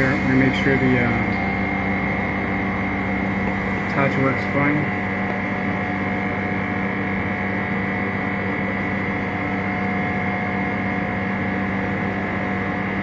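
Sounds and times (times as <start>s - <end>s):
machine hum with constant tones: 0.0s - 13.0s.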